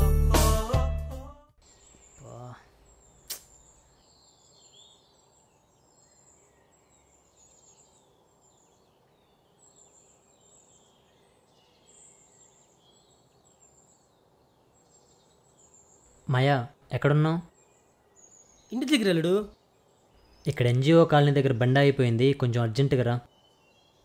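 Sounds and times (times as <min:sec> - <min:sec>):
faint birds chirping: 0:01.6 - 0:24.0.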